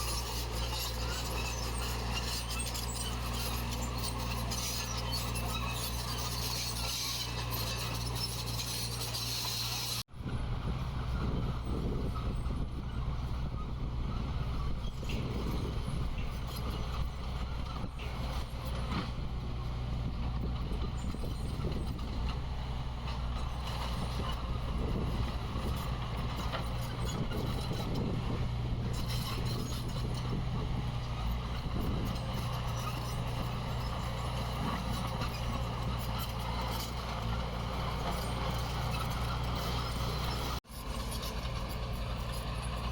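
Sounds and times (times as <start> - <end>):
heavy diesel engine droning: 0.0 - 42.9.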